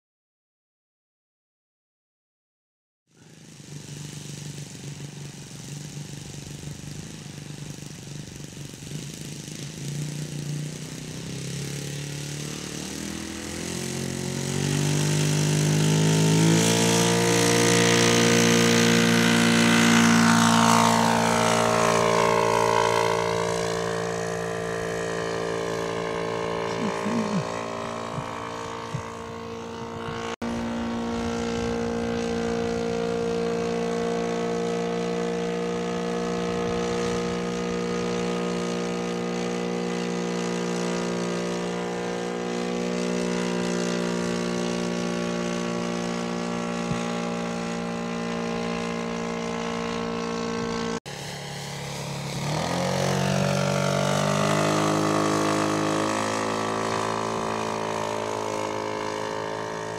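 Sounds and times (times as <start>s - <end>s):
model plane engine and propeller: 3.1s - 59.9s.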